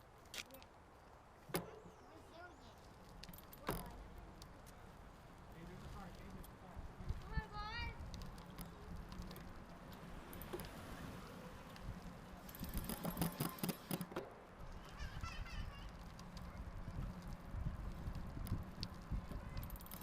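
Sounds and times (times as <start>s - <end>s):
bicycle rolling noise: 0.0s - 20.0s.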